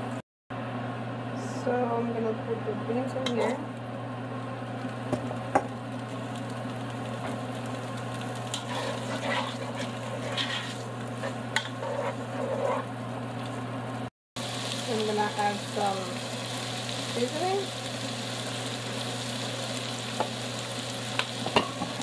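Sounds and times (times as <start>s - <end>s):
beans sizzling in oil: 3.3s - 22.0s.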